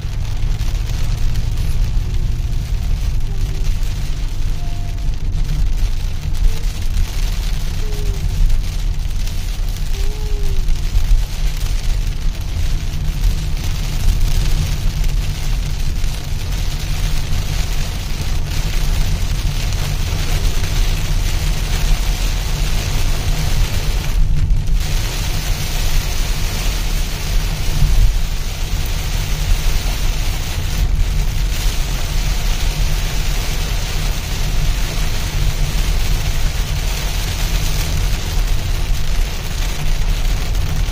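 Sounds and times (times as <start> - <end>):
deep low rumble: 0.0 - 40.9
heavy rain: 0.0 - 40.9.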